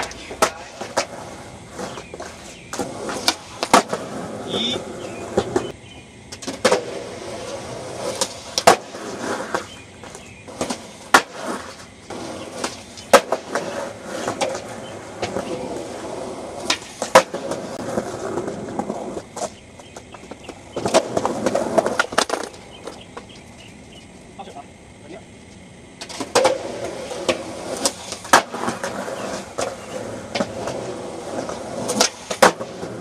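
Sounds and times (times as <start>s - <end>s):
skateboard clacks: 0.0s - 23.6s, 25.6s - 33.0s
skateboard wheels rolling on concrete: 0.0s - 33.0s.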